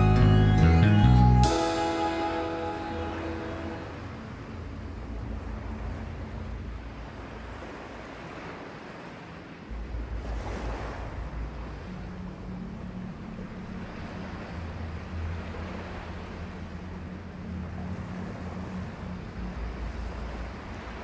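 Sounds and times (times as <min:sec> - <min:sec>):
small waves washing on beach: 0:01.6 - 0:21.0
wind rumbling on microphone: 0:03.8 - 0:21.0.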